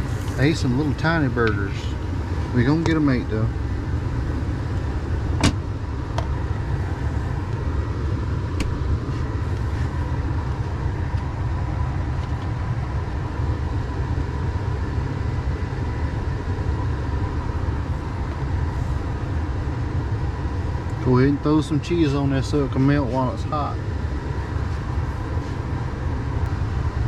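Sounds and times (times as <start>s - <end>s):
truck diesel engine idling: 0.0s - 27.0s.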